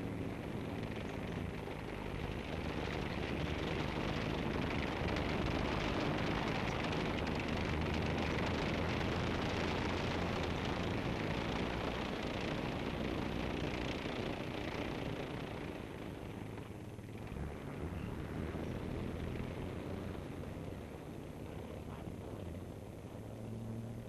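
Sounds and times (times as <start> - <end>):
tank engine droning: 0.0 - 24.0.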